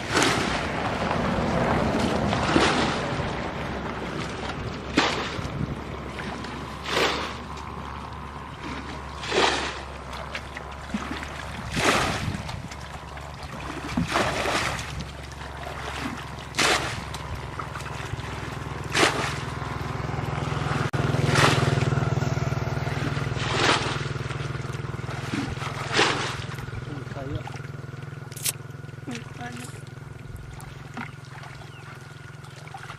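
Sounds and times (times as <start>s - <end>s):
steady low hum: 0.0s - 32.9s
water splashing in swishes: 0.0s - 32.9s.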